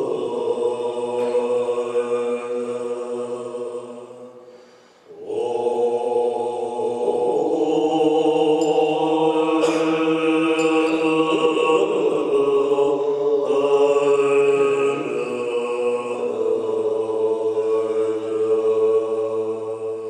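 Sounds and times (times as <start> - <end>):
monks chanting in held notes: 0.0 - 20.0.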